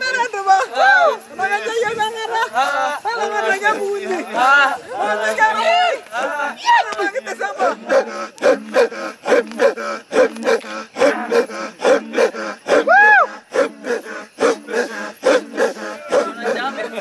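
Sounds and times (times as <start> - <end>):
men's rhythmic guttural chant: 0.0 - 17.0.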